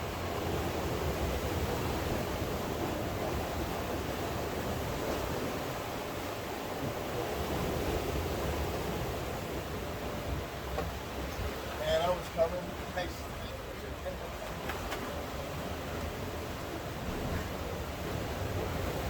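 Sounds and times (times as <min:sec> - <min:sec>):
sea surf: 0:00.0 - 0:19.0.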